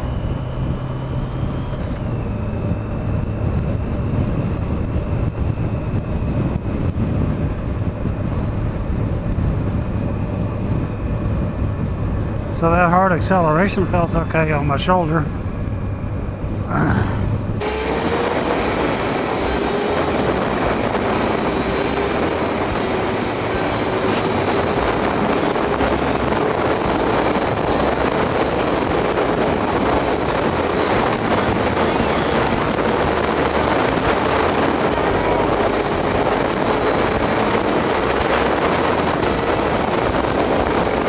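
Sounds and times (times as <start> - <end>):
motorcycle engine drone: 0.0 - 41.0
wind and road noise: 0.0 - 41.0.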